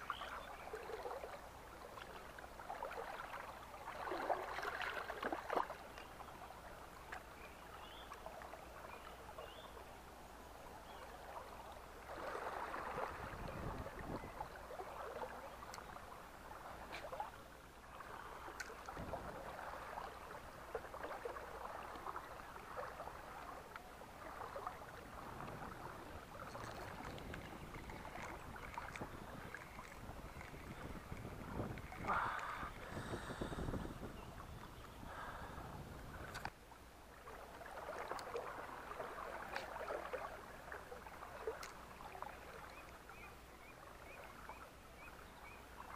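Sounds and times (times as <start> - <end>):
river water splashing: 0.0 - 45.9
water sloshing and lapping: 0.0 - 45.9.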